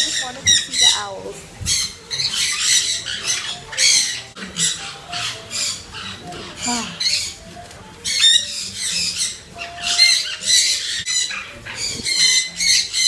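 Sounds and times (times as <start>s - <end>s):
birds squawking and calling: 0.0s - 13.0s.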